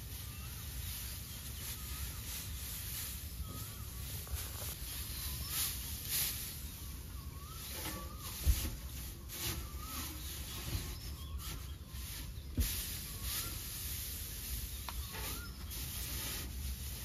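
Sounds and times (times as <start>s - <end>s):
dry straw rustling and crackling: 0.0s - 17.0s
bird chirping: 0.1s - 17.0s.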